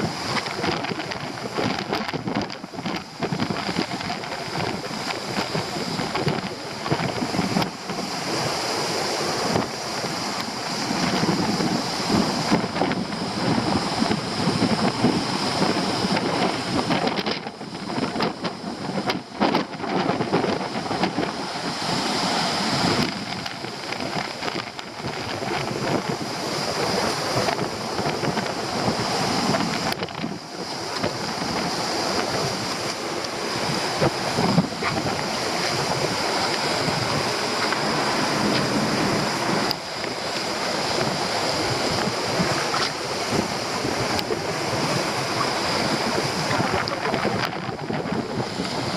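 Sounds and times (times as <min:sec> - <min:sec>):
surf breaking on rocks: 0:00.0 - 0:48.9
wind buffeting microphone: 0:00.0 - 0:48.9.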